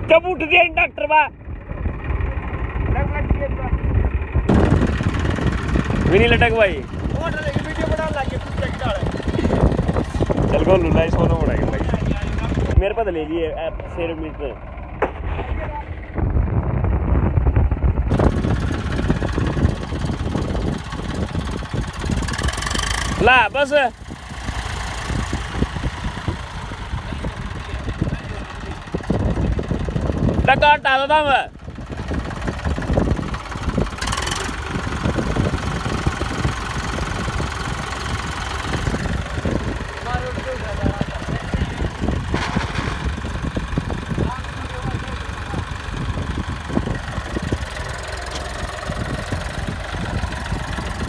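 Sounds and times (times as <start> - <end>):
tractor engine drone: 0.0 - 51.0.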